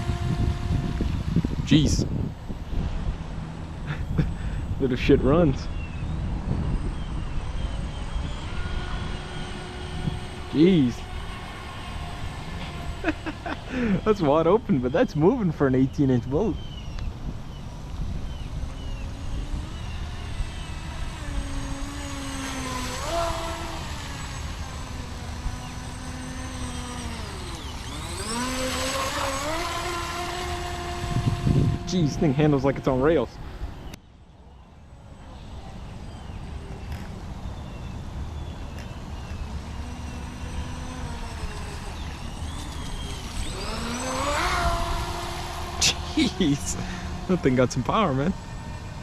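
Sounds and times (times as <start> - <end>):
electric boat motor whining: 0.0 - 34.0, 34.8 - 49.0.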